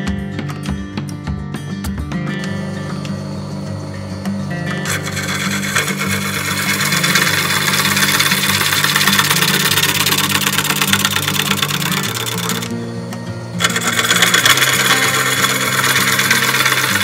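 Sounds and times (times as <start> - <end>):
wood lathe gouge cutting: 2.5 - 17.0.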